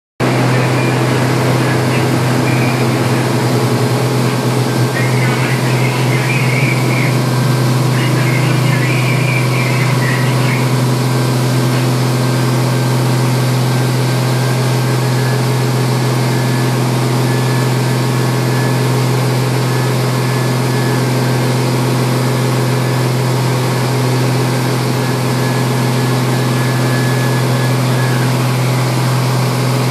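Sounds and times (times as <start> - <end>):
heavy machinery drone: 0.2 - 29.9.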